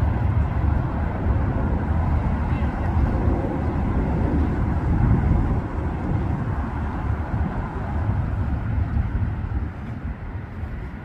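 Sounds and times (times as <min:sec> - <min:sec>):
passing train rumble: 0:00.0 - 0:11.0.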